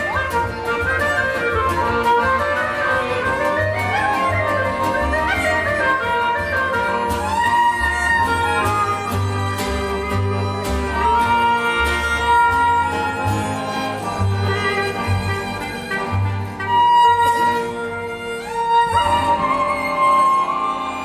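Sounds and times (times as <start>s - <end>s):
accordion: 0.0s - 21.0s
clarinet: 0.0s - 21.0s
plucked double bass: 0.0s - 21.0s
strummed acoustic guitar: 0.0s - 21.0s
violin: 0.0s - 21.0s.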